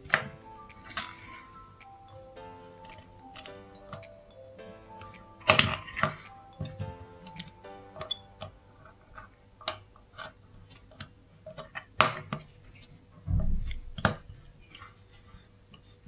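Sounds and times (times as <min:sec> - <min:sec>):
screwdriver and tweezers clicking on metal: 0:00.0 - 0:12.4, 0:13.6 - 0:15.0.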